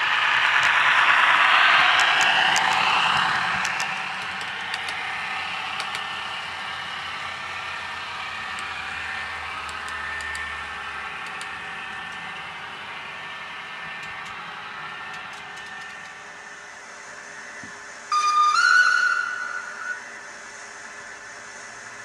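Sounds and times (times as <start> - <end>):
model train running: 0.0 - 22.0.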